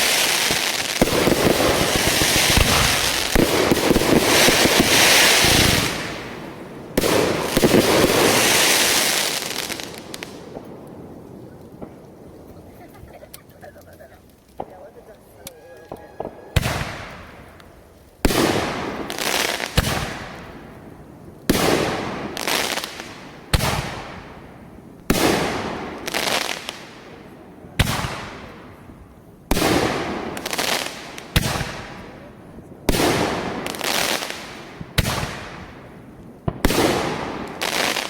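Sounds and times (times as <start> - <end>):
fireworks bangs: 0.0 - 38.0.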